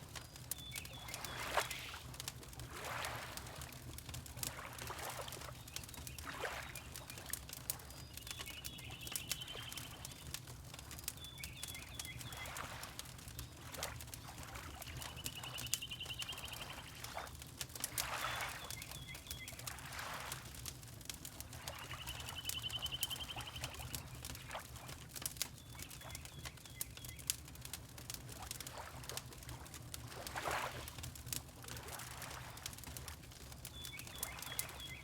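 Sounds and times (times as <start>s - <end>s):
water lapping: 0.0s - 35.0s
wood fire crackling: 0.0s - 35.0s.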